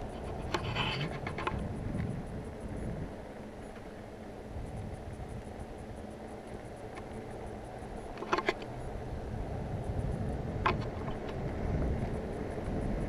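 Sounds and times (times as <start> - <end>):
bicycle rolling on pavement: 0.0 - 13.0
wind on microphone: 0.0 - 13.0.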